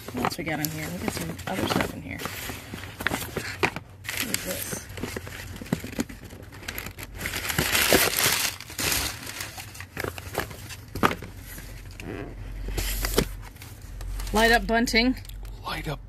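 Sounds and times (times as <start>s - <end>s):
packing paper rustling: 0.0s - 14.6s.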